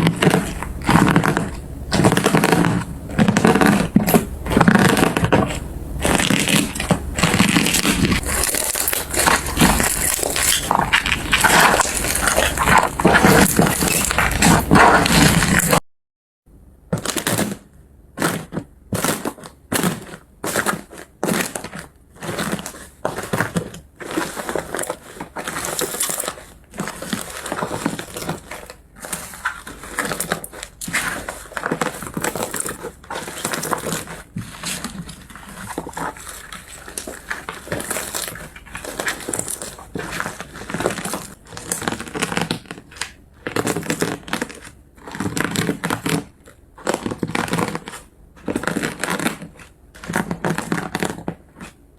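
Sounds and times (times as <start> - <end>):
slime squishing: 0.0 - 15.8, 16.8 - 51.9.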